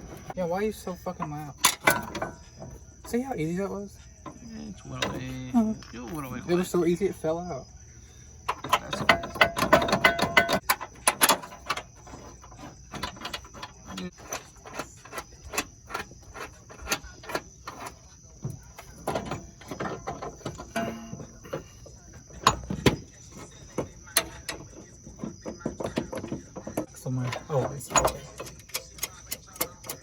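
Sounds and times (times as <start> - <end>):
hand tools clicking and knocking: 0.0 - 3.3, 8.4 - 30.0.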